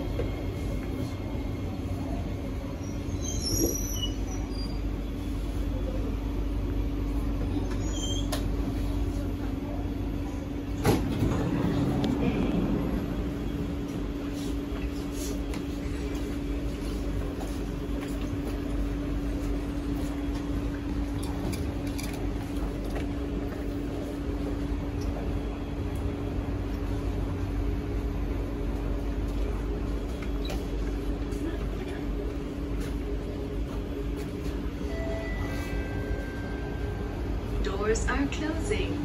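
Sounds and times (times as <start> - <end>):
metro train car hum: 0.0 - 39.0.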